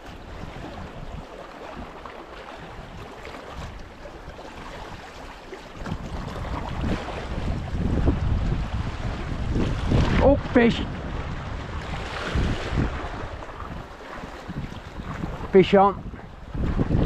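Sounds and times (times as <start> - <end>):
sea water washing against rocks: 0.0 - 17.0
wind on the microphone: 0.0 - 17.0.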